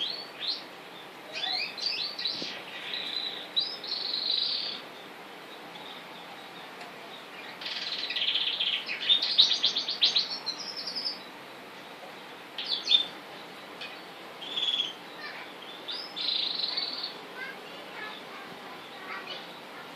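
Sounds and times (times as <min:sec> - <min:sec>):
canary trilling song: 0:00.0 - 0:19.9.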